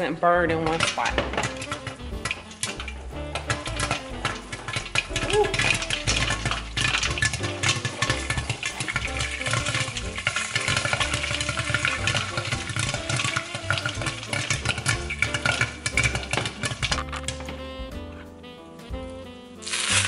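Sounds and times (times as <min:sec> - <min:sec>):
pot scraping and rattling on burner: 0:00.0 - 0:17.6
oil sizzling: 0:00.0 - 0:18.3, 0:19.2 - 0:20.0
popcorn popping: 0:00.0 - 0:18.6, 0:19.6 - 0:20.0.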